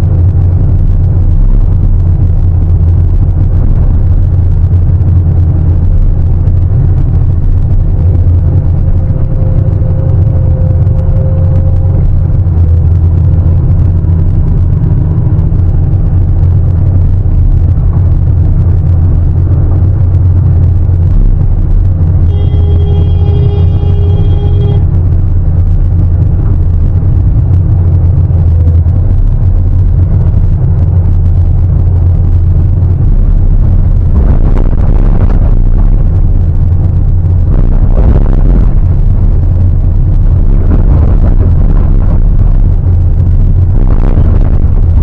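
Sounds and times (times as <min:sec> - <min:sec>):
excavator diesel engine rumble: 0:00.0 - 0:45.0
faint high whine: 0:00.0 - 0:45.0.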